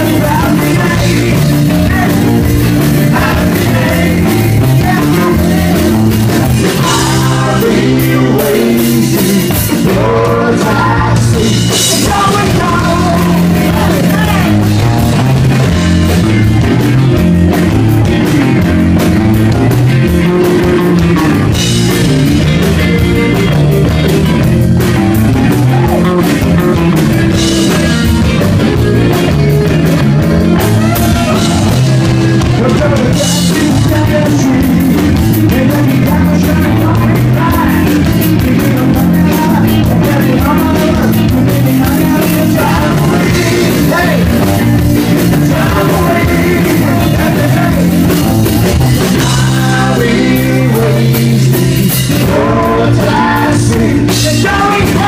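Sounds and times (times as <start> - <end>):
man singing: 0.0 - 16.1, 20.0 - 23.3, 25.3 - 55.0
bass guitar: 0.0 - 55.0
drum kit: 0.0 - 55.0
electric guitars: 0.0 - 55.0.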